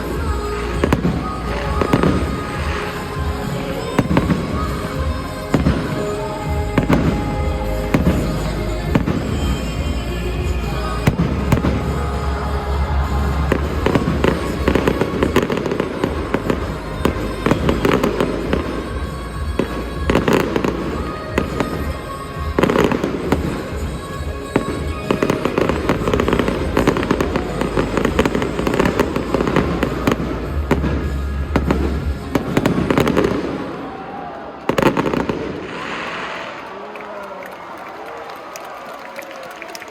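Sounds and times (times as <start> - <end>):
music: 0.0 - 35.8
fireworks bangs and crackles: 0.0 - 37.0.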